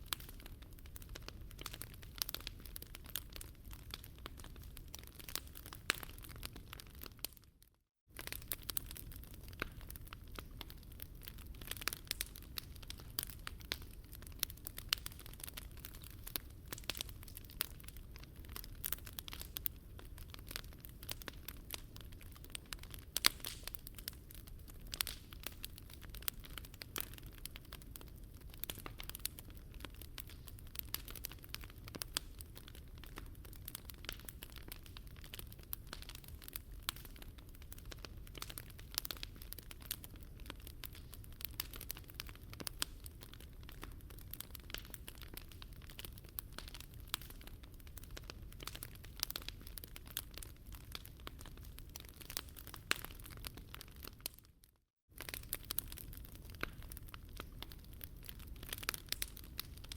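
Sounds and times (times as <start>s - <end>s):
campfire crackling and popping: 0.0s - 7.4s, 8.1s - 54.5s, 55.1s - 59.9s.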